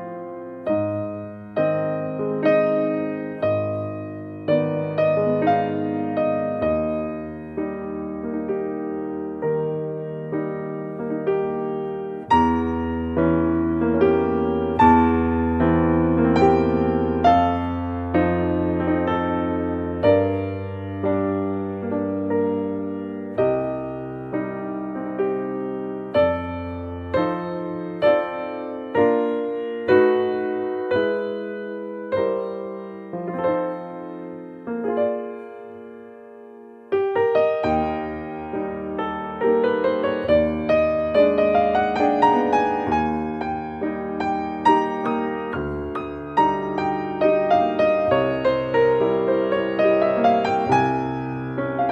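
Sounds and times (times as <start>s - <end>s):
calm piano music: 0.0s - 51.9s.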